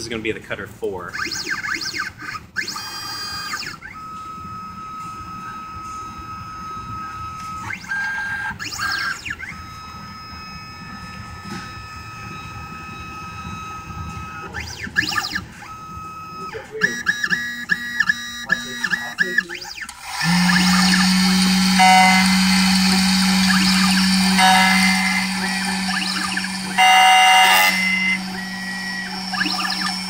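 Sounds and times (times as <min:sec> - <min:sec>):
stepper motors whining: 0:01.1 - 0:30.0.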